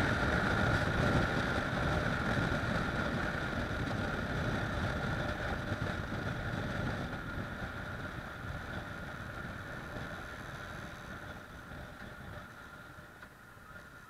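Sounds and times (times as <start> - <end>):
motorcycle engine running: 0.0 - 14.0
wind and road rush: 0.0 - 14.0.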